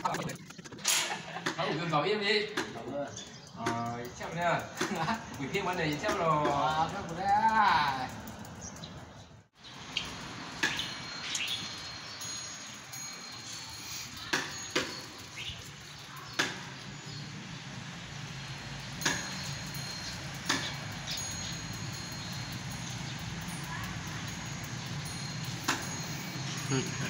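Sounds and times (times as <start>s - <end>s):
small metal chimes tinkling: 1.8s - 27.0s.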